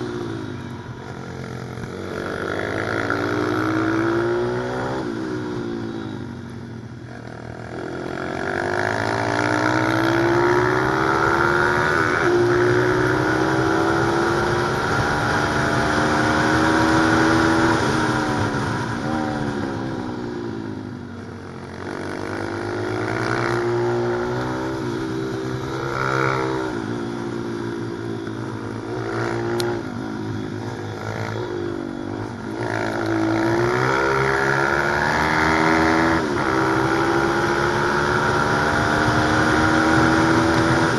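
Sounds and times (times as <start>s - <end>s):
motorbike engine revving: 0.0s - 6.4s, 7.1s - 40.9s.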